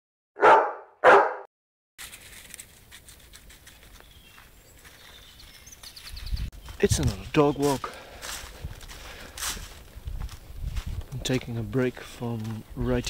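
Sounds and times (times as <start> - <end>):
light footsteps: 2.1 - 13.0.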